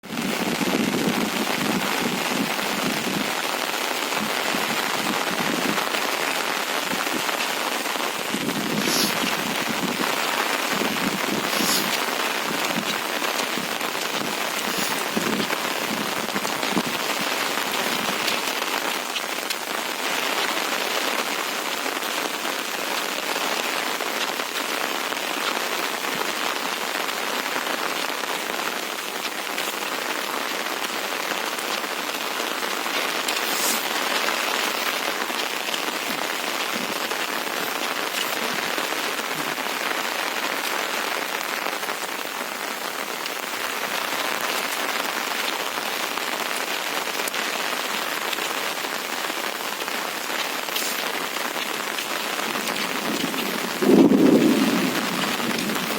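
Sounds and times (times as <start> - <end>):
rain and wind storm hiss: 0.0 - 55.9.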